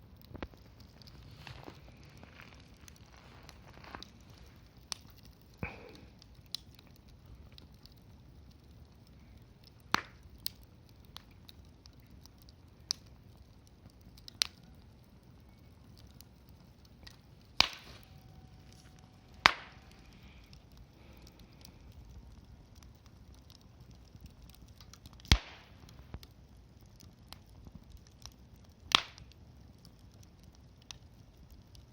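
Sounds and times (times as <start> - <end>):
campfire pops and snaps: 0.0 - 31.9.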